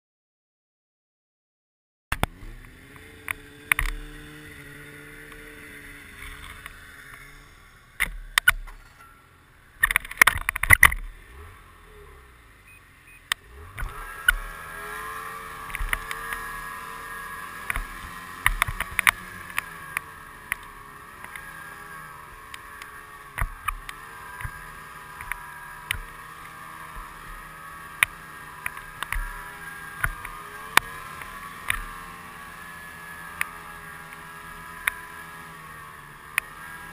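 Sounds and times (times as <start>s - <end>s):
snowmobile engine running: 2.2s - 36.9s.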